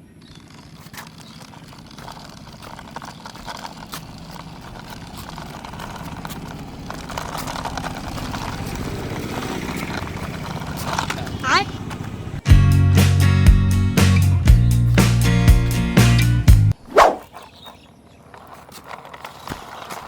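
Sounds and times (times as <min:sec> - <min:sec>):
vehicle motor running: 0:00.4 - 0:16.8.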